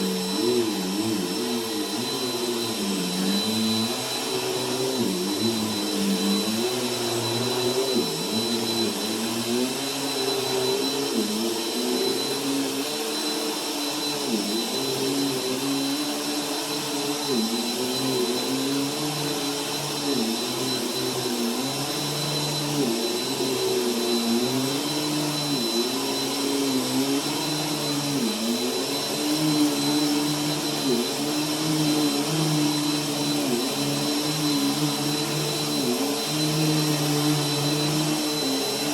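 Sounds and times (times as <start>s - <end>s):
vacuum cleaner on carpet: 0.0s - 38.9s.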